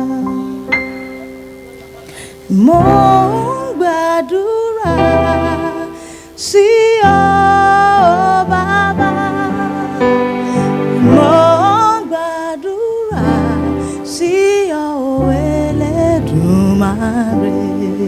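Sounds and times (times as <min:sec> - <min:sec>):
person singing wordless phrases: 0:00.0 - 0:00.8, 0:02.1 - 0:18.0
gospel accompaniment: 0:00.0 - 0:18.0.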